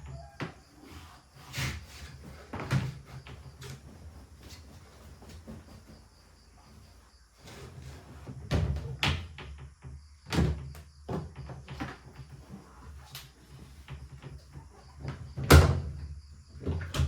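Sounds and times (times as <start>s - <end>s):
knocks and thumps: 0.0s - 17.0s.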